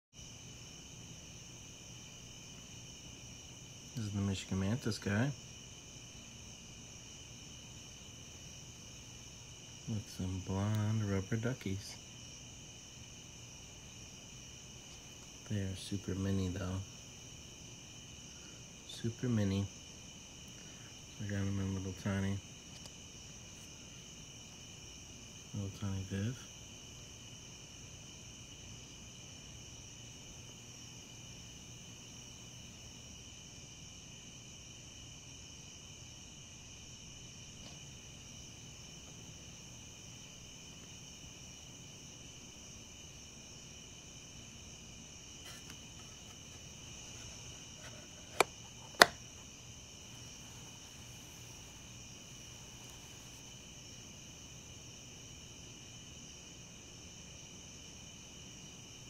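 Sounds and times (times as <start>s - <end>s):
insects chirring: 0.1s - 59.0s.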